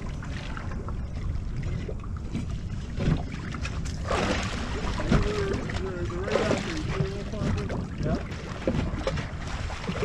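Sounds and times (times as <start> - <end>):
water sloshing against boat hull: 0.0 - 10.0.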